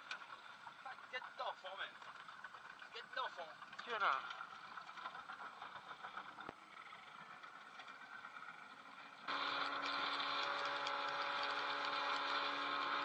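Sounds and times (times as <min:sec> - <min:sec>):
outboard motor humming: 0:00.0 - 0:13.0
water noise: 0:00.0 - 0:13.0
wind: 0:00.0 - 0:13.0.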